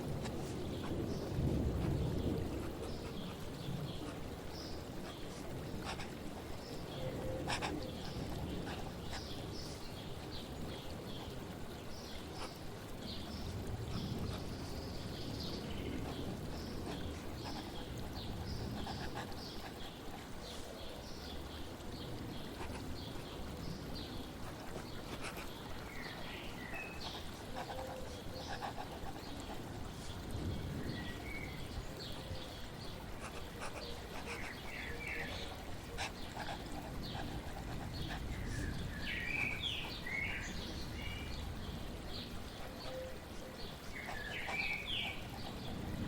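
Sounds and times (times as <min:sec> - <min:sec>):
birds chirping: 0:00.0 - 0:46.0
flowing water: 0:00.0 - 0:46.0.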